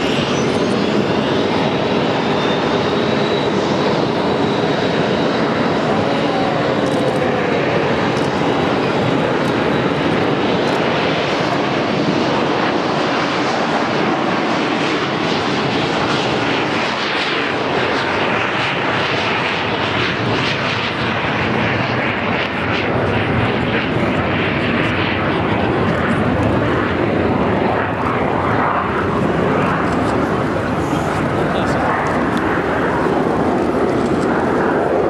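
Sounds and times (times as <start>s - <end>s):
jet planes flying past: 0.0s - 35.0s.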